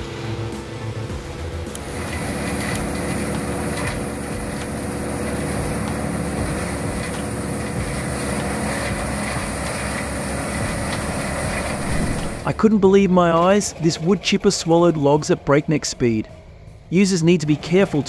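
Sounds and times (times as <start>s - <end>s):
wood chipper running: 0.0s - 18.0s.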